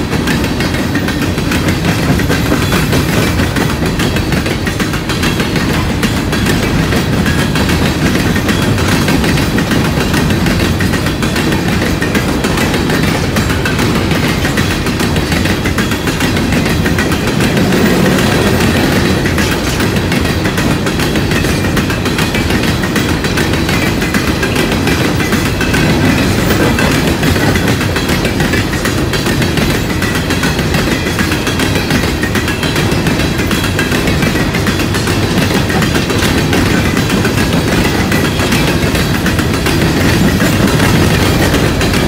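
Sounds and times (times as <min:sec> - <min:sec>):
train wheels rumbling on rail: 0:00.0 - 0:42.0
wheels clicking over rail joints: 0:00.0 - 0:42.0.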